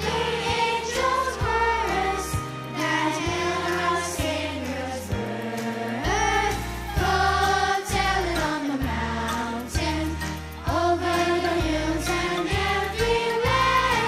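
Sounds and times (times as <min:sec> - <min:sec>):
band accompaniment: 0:00.0 - 0:14.0
choir singing: 0:00.0 - 0:14.0.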